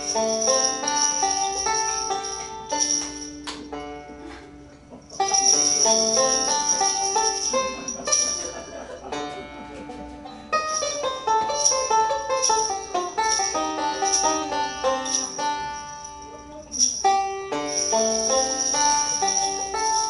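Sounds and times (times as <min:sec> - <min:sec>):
jingling bells: 0:00.0 - 0:03.7, 0:04.9 - 0:09.3, 0:10.6 - 0:20.0
plucked-string music: 0:00.0 - 0:20.0.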